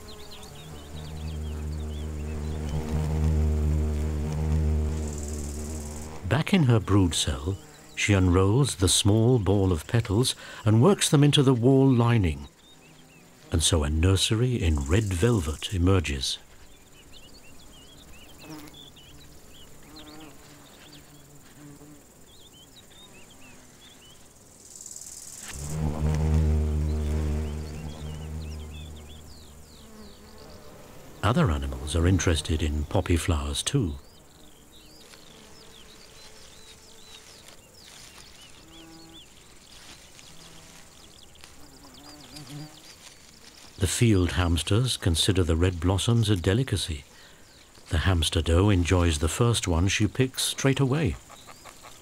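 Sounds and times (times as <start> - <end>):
bee wings buzzing: 0.0 - 52.0
small birds twittering: 0.0 - 52.0.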